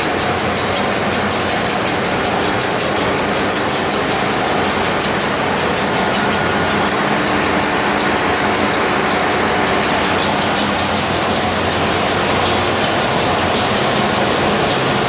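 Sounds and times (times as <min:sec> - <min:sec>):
diesel engine machinery pulsing: 0:00.0 - 0:15.0.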